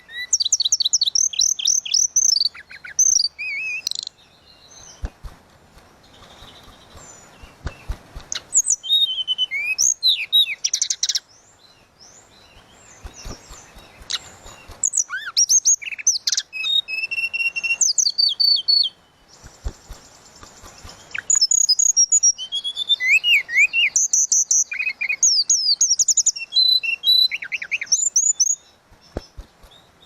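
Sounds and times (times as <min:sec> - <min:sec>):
bird whistling song: 0:00.0 - 0:05.2, 0:06.1 - 0:11.3, 0:12.0 - 0:30.0.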